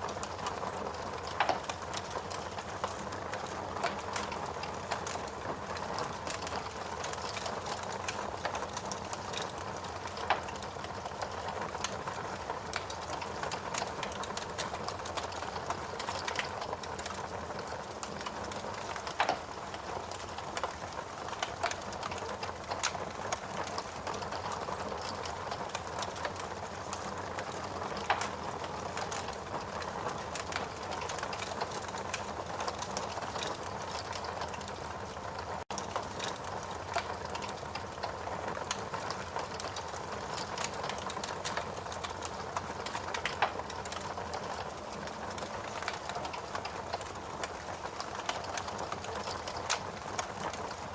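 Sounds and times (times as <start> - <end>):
fire popping: 0.0 - 50.9
wood fire crackling: 0.0 - 50.9.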